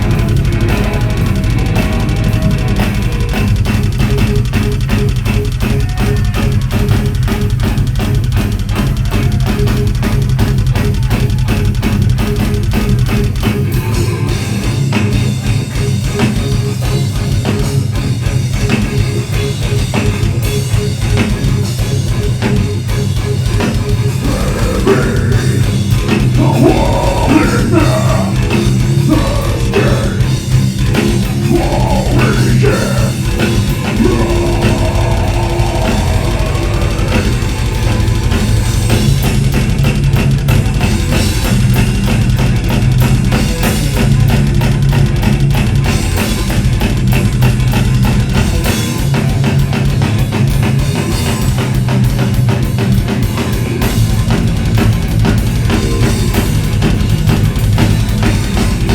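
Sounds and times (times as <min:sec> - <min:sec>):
heavy metal band playing live: 0:00.0 - 0:58.9.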